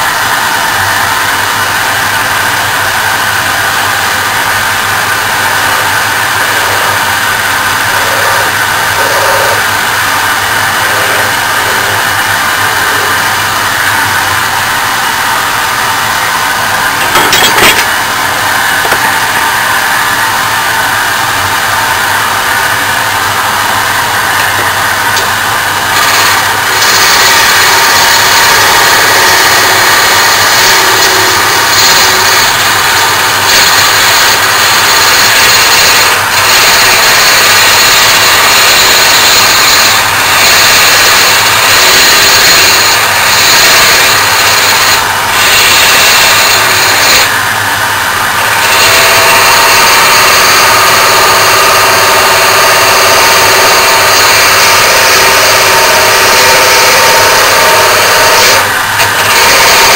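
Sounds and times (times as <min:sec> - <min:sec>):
wood lathe whirring: 0:00.0 - 0:59.9.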